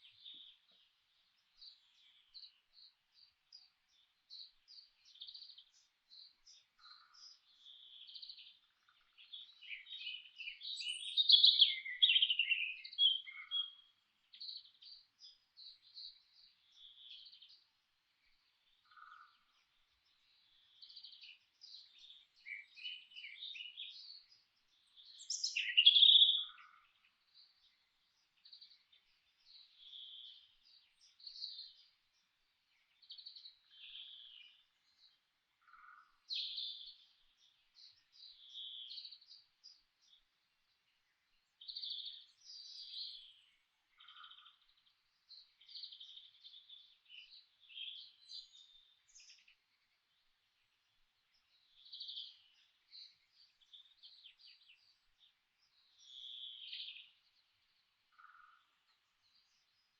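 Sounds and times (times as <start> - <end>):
songbirds chirping and singing: 0.0 - 59.9.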